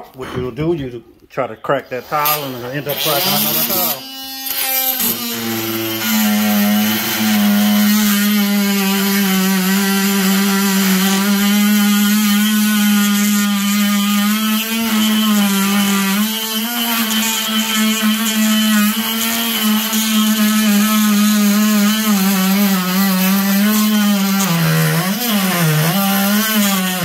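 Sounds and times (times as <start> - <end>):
power tool cutting grout: 1.8 - 27.0.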